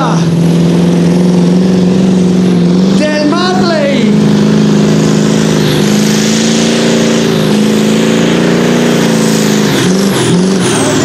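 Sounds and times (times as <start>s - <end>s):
tractor engine at high revs: 0.0s - 11.0s.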